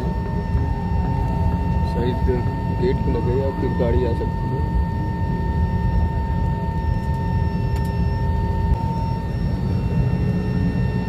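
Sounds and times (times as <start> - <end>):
airliner cabin rumble: 0.0 - 11.0
engine whine: 0.0 - 11.0.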